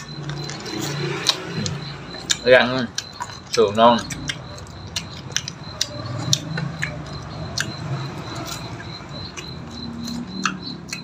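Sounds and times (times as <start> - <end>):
people chewing and lip smacking: 0.0 - 11.0
steady high-pitched tone: 0.0 - 11.0.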